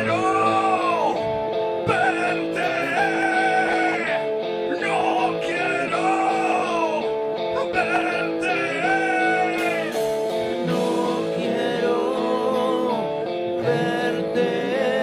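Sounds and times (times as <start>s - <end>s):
drums: 0.0s - 7.0s, 7.6s - 14.5s
electric guitar: 0.0s - 15.0s
keyboard: 0.0s - 15.0s
person singing: 0.0s - 15.0s.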